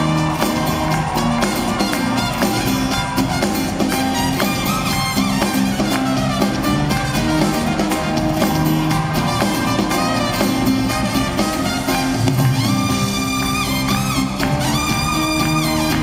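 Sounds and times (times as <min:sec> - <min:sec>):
acoustic band playing: 0:00.0 - 0:16.0.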